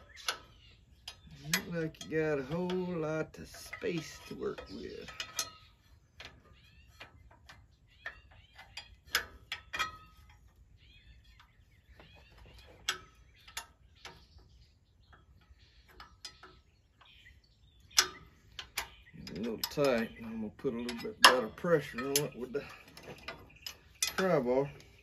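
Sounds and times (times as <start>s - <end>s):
birds chirping faintly: 0.0s - 25.0s.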